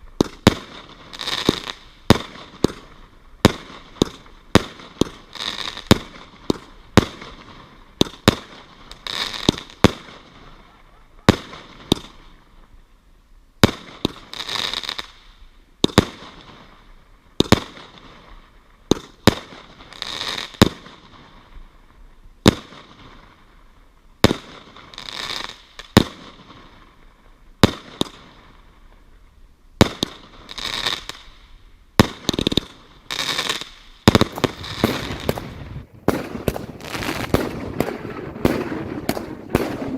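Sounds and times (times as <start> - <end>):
fireworks bangs with crackle: 0.0 - 10.6, 11.2 - 12.4, 13.6 - 21.5, 22.4 - 23.4, 24.2 - 29.0, 29.8 - 39.9.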